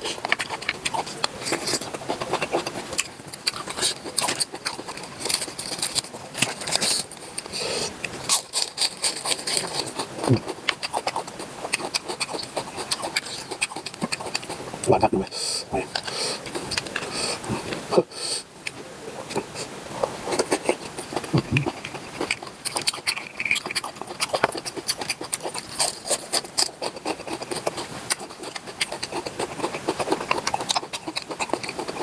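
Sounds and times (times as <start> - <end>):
person chewing with wet smacks: 0.0 - 32.0.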